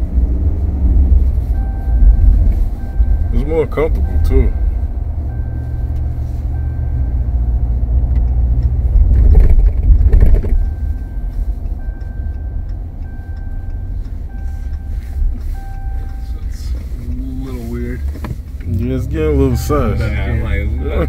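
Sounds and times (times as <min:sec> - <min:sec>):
engine rumble inside truck cab: 0:00.0 - 0:21.0
road noise: 0:00.0 - 0:21.0.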